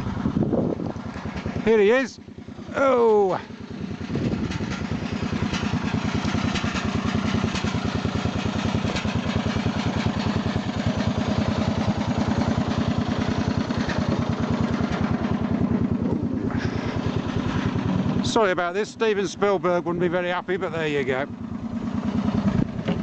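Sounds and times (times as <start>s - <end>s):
lawn tractor engine idling: 0.1s - 23.0s.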